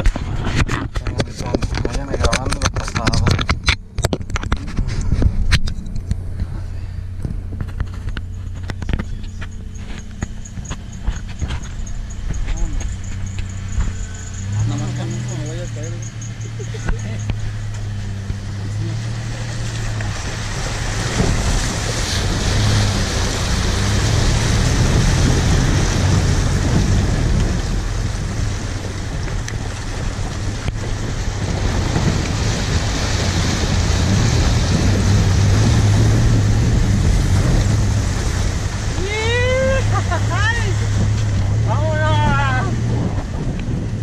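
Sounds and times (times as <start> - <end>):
vehicle engine running: 0.0 - 44.0
water rushing and splashing: 0.0 - 44.0
wind noise on microphone: 0.0 - 44.0.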